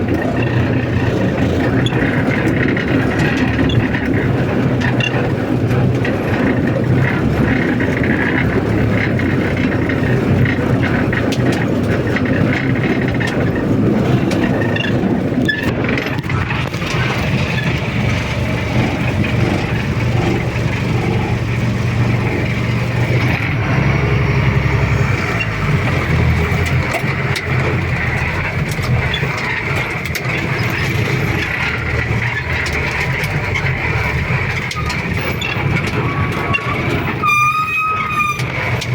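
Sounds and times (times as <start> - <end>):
vehicle engines running: 0.0 - 38.9.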